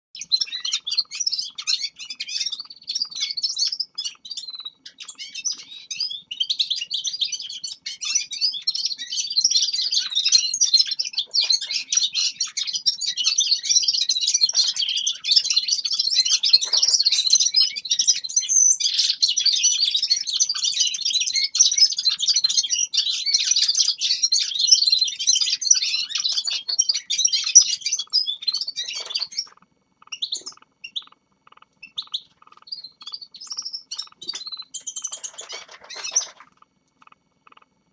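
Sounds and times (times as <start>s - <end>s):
finches chirping: 0.2s - 37.7s.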